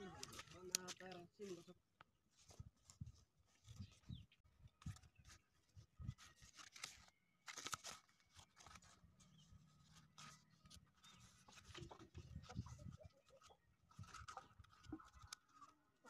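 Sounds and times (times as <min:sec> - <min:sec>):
cardboard crinkling and rustling: 0:00.0 - 0:16.0.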